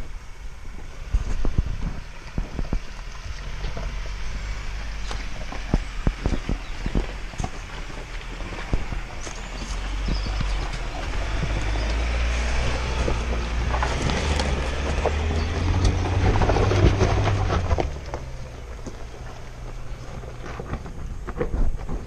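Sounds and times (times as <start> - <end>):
pickup engine running at low speed: 0.0 - 22.0
stones crunching under tyres: 0.0 - 22.0.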